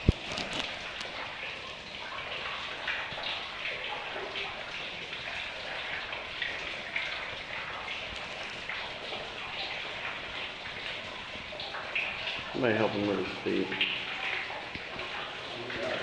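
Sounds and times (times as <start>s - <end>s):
small waterfall splashing: 0.0s - 16.0s.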